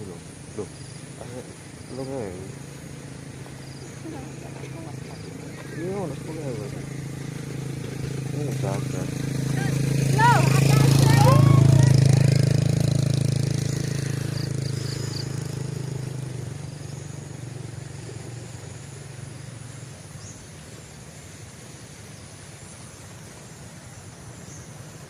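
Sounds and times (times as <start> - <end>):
faint outdoor background: 0.0 - 25.0
vehicle engine hum: 0.0 - 25.0.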